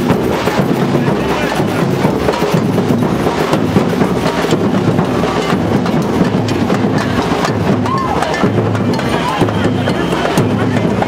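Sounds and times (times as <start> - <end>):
clattering percussion hits: 0.0 - 11.0
low drum tone: 0.0 - 11.0.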